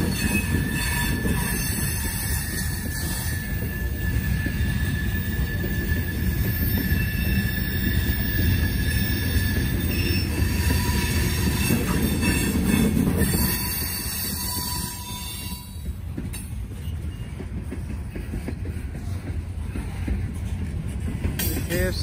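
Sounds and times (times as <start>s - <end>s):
freight train cars rolling: 0.0s - 22.0s
wheels squealing on rail: 0.0s - 22.0s.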